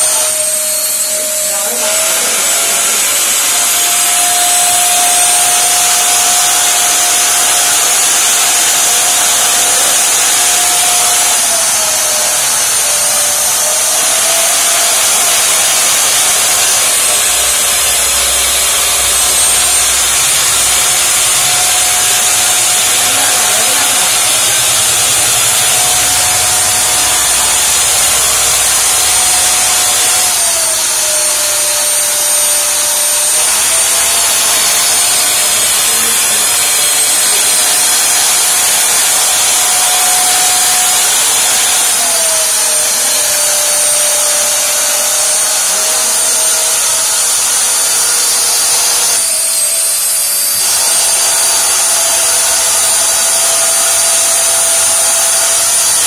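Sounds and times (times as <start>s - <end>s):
vacuum motors whining: 0.0s - 56.0s.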